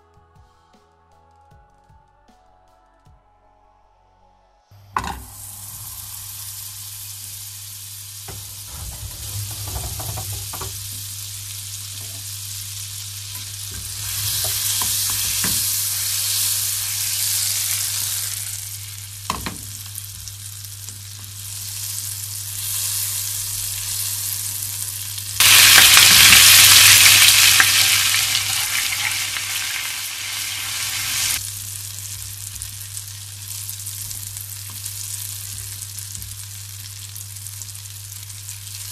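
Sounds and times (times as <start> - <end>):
butter sizzling in a frying pan: 5.0 - 38.9
egg frying sizzle: 5.1 - 38.9.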